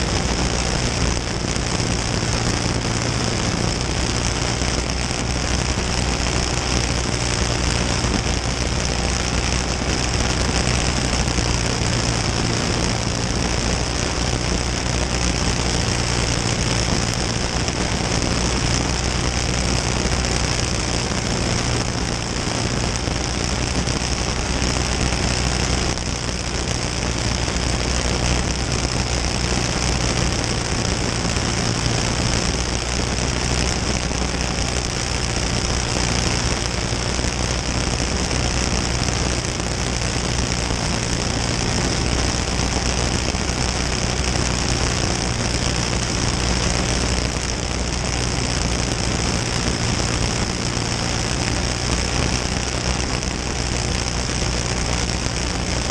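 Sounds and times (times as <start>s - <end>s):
kart engine running hard: 0.0s - 55.9s.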